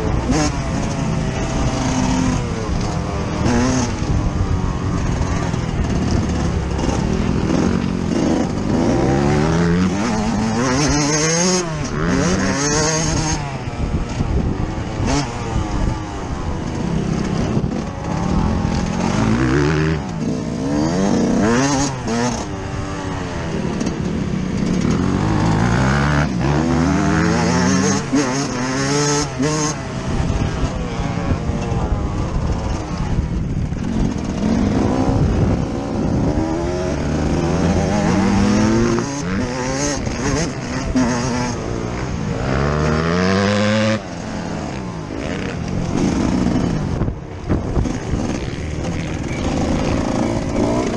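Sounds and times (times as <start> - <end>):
motocross engine revving: 0.0 - 50.9.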